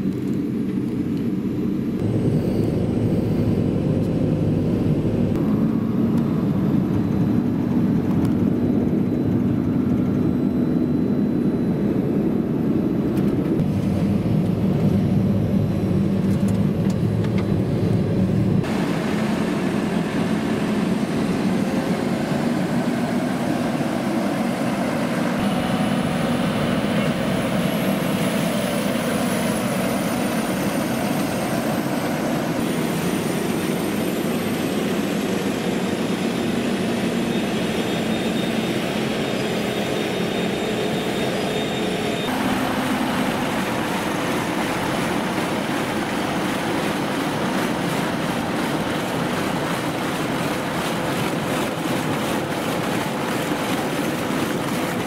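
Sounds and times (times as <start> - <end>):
tractor diesel engines running: 0.0 - 11.7, 13.0 - 55.0
faint high whine: 1.5 - 46.6.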